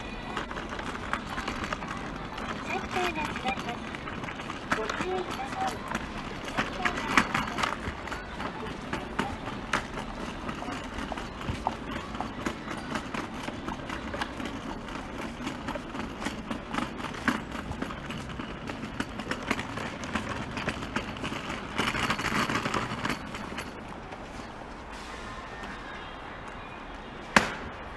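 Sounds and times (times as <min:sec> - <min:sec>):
footsteps clicking on pavement: 0:00.0 - 0:27.9
road traffic hum: 0:00.0 - 0:27.9.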